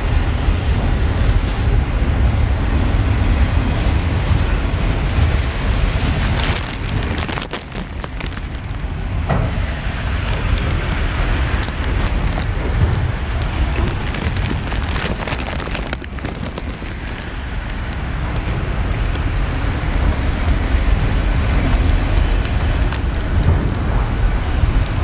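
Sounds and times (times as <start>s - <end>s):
freight cars clicking and rattling: 0.0s - 25.0s
steel wheels rumbling on rail: 0.0s - 25.0s.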